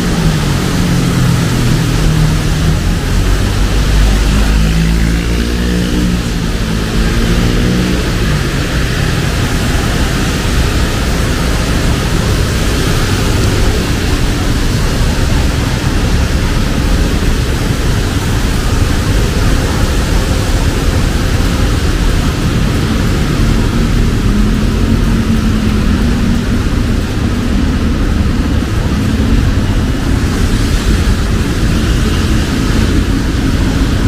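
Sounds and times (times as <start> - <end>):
road traffic: 0.0 - 34.0
steady rain: 0.0 - 34.0
vehicle engine hum: 0.0 - 34.0.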